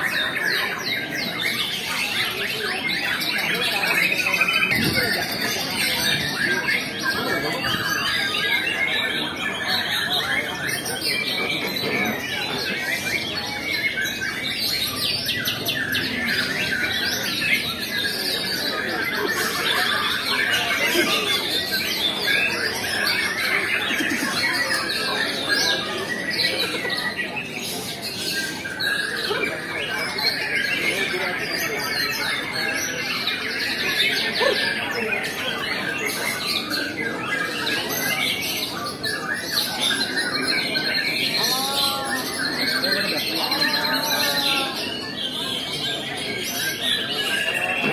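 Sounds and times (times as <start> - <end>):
many songbirds singing: 0.0 - 47.9.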